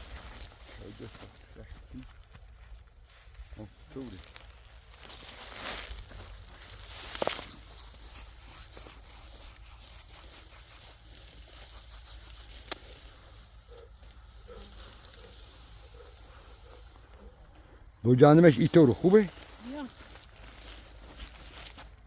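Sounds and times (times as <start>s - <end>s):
wheat stalks rustling and tearing: 0.0s - 17.3s, 18.3s - 22.0s.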